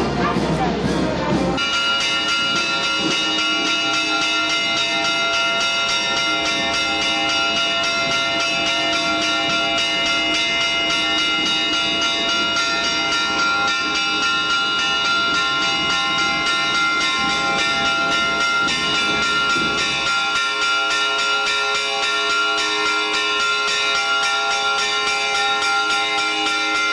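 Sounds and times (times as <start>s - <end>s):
church bells pealing: 1.5s - 26.9s.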